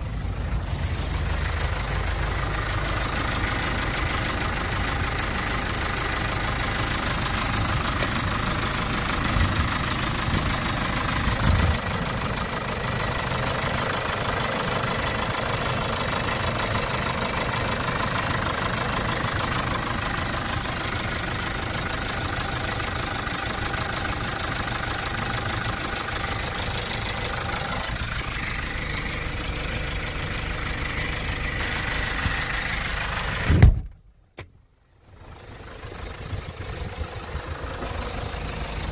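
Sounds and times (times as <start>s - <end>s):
diesel engine idling: 0.0s - 33.9s, 34.8s - 38.9s
engine knocks: 0.1s - 34.0s.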